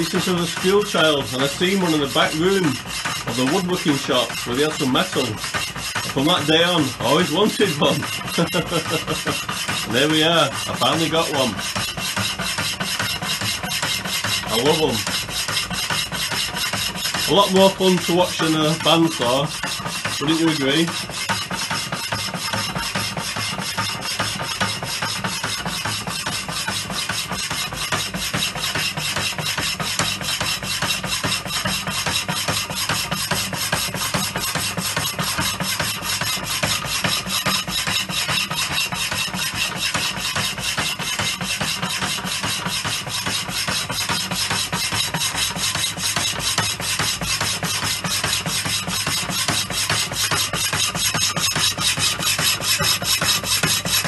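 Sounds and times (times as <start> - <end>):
hacksaw blade rasping on steel: 0.0 - 54.0.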